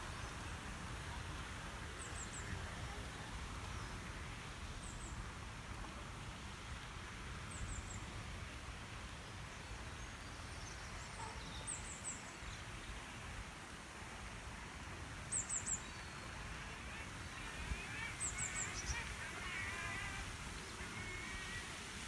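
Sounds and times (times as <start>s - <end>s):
low outdoor background noise: 0.0s - 22.0s.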